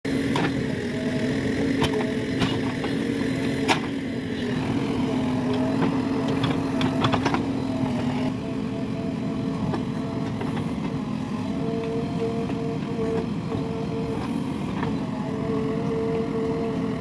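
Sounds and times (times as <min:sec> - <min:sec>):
diesel engine running under load: 0:00.1 - 0:17.0.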